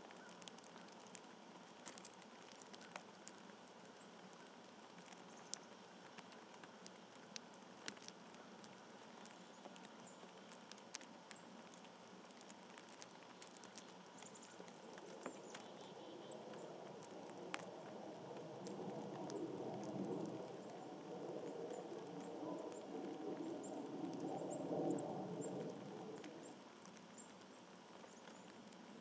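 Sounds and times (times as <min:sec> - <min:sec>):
birds pecking at a feeder: 0:00.0 - 0:29.0.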